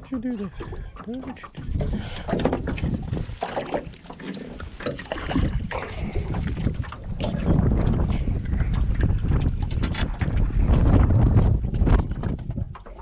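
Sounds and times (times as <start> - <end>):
knocks and clicks from boat: 0.0 - 13.0
wind buffeting microphone: 0.0 - 13.0.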